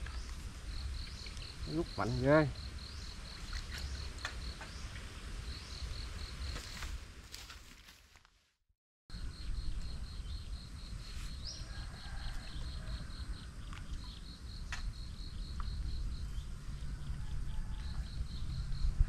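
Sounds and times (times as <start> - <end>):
insect chirping: 0.0 - 7.0, 9.1 - 19.0.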